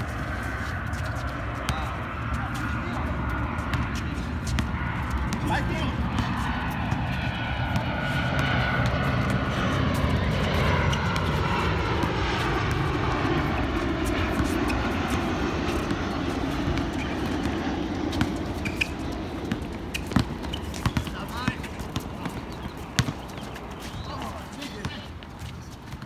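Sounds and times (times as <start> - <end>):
airliner flying overhead: 0.0 - 26.0
ball bouncing on court: 0.9 - 26.0.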